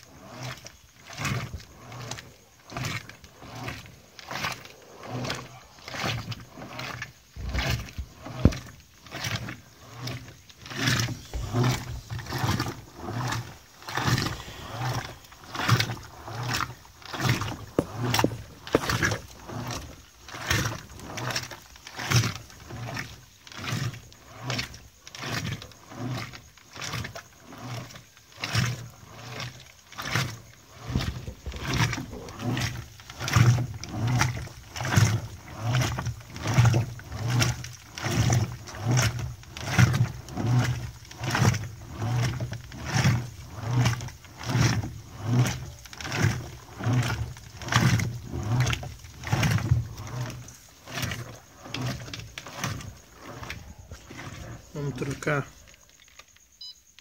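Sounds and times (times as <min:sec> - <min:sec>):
washing machine motor humming: 0:00.0 - 0:55.6
clothes swishing in water: 0:00.0 - 0:56.6.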